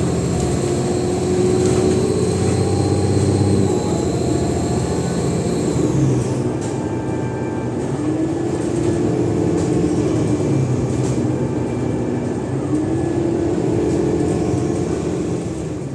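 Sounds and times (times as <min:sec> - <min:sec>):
bus diesel engine running: 0:00.0 - 0:15.9.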